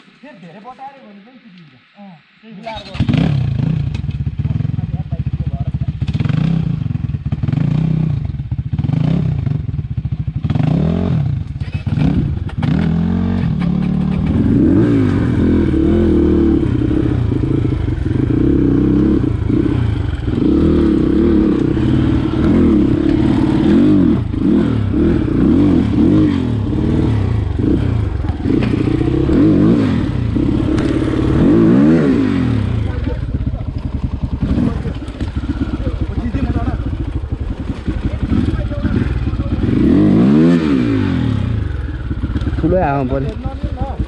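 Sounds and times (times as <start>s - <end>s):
dirt bike engine revving: 2.7s - 44.0s.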